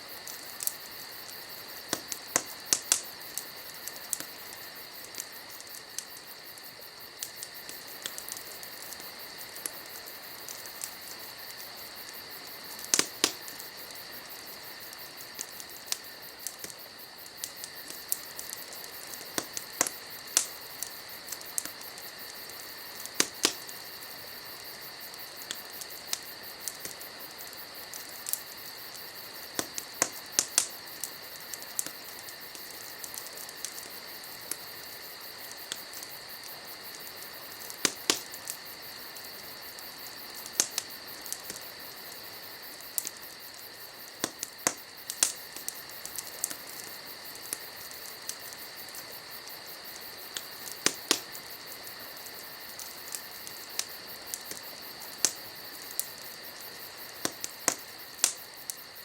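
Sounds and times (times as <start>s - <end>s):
night insects chirring: 0.0s - 59.0s
wood fire crackling and popping: 0.0s - 59.0s.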